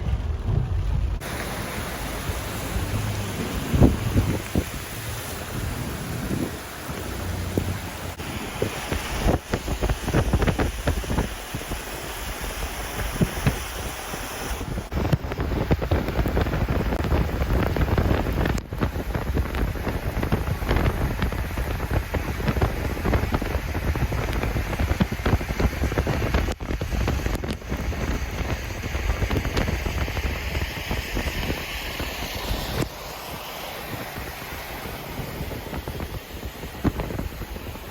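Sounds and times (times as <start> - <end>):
heavy rain falling: 0.0 - 37.9
wind buffeting microphone: 0.0 - 37.9.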